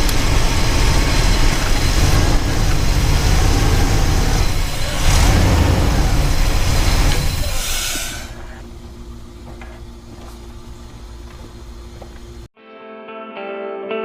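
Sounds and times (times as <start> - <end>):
truck engine running: 0.0 - 12.5.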